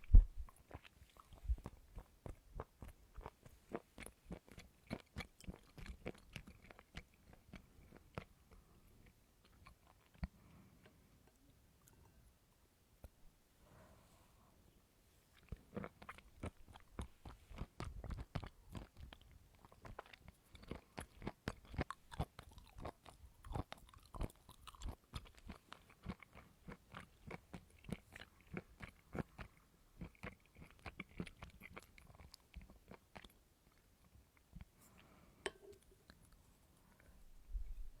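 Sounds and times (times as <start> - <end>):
chewing and crunching coconut: 0.5 - 11.0, 15.3 - 36.4.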